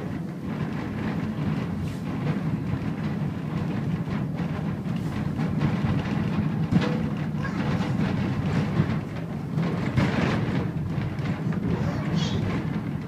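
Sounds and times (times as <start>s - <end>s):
light knocks and clatters: 0.0s - 13.0s
tram car rumbling on rails: 0.0s - 13.0s.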